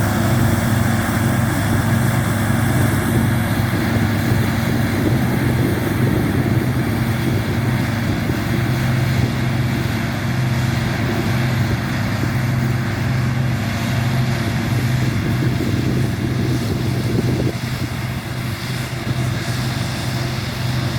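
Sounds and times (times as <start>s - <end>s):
combine harvester engine hum: 0.0s - 20.9s
machinery rush: 0.0s - 20.9s.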